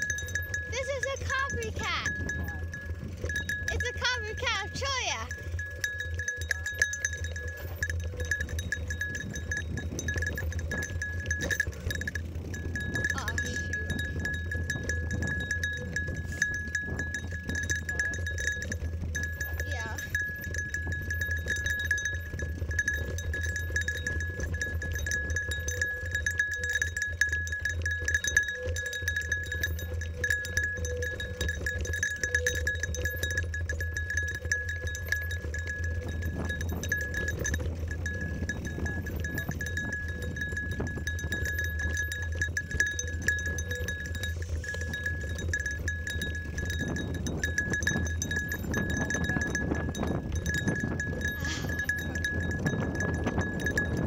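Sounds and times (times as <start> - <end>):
wind rumble on microphone: 0.0 - 4.4, 5.2 - 54.0
bell-like jingling: 0.0 - 54.0
bike rattling on dirt trail: 0.0 - 54.0.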